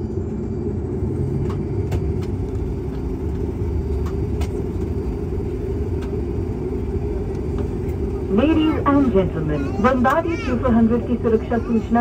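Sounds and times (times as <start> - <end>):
turboprop engine rumble: 0.0 - 12.0.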